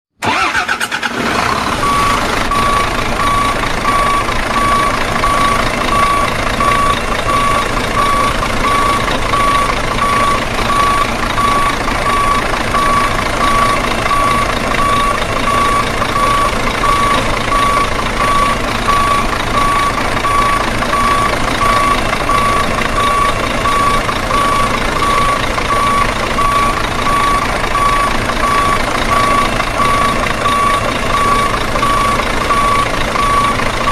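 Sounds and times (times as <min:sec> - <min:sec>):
truck engine running: 0:00.2 - 0:33.9
reversing alarm beeping: 0:01.8 - 0:33.9.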